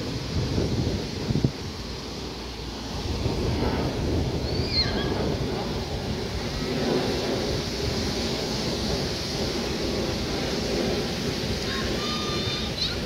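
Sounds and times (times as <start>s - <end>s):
beach noise: 0.0s - 13.0s
wind rumbling on microphone: 0.0s - 13.0s.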